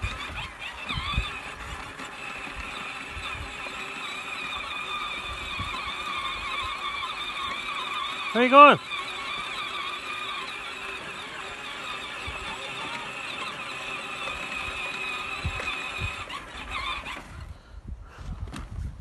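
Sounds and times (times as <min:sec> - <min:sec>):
tractor high-pitched whine: 0:00.0 - 0:17.5.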